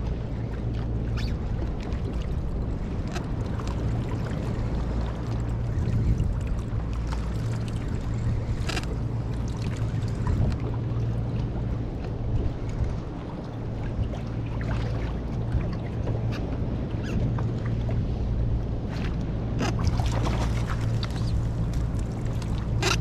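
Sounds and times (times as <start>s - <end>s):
water sloshing around kayak: 0.0s - 23.0s
wind on microphone: 0.0s - 23.0s.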